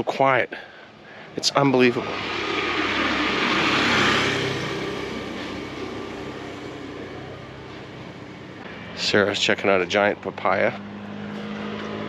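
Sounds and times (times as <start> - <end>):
motor vehicle passing: 1.2 - 12.0.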